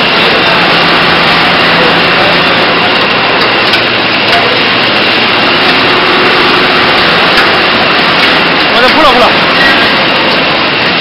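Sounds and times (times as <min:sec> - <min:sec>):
tyre recycling machinery running: 0:00.0 - 0:11.0.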